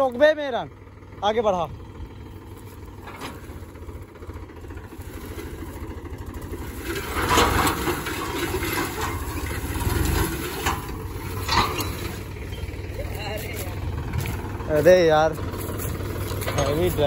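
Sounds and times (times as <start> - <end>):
tractor diesel engine under load: 0.0 - 17.0
harrow discs clattering and scraping: 2.4 - 17.0.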